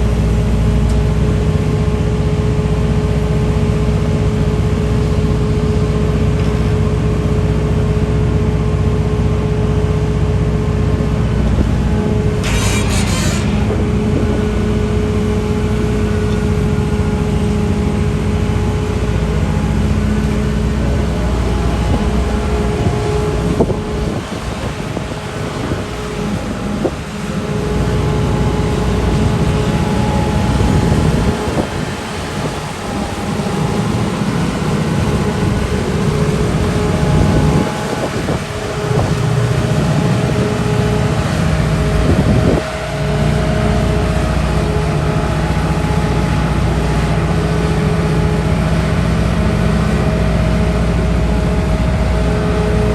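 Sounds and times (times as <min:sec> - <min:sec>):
excavator diesel engine running: 0:00.0 - 0:52.9
steady whine: 0:00.0 - 0:52.9.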